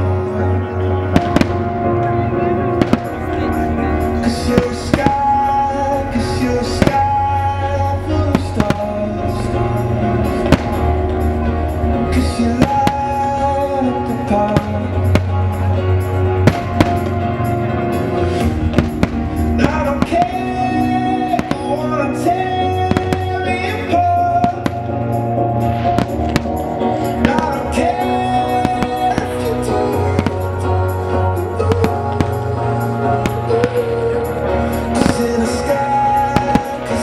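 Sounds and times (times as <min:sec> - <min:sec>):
music with pulsing bass: 0:00.0 - 0:37.0
firework bangs and crackles: 0:01.1 - 0:01.8, 0:02.8 - 0:33.9, 0:34.6 - 0:37.0.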